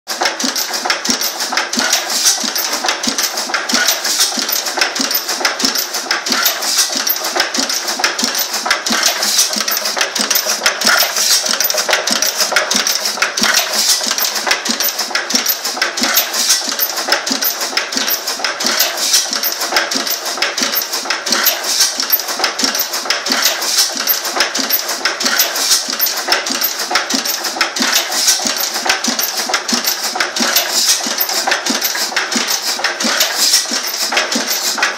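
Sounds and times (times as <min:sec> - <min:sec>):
stationary engine running: 0:00.1 - 0:34.9.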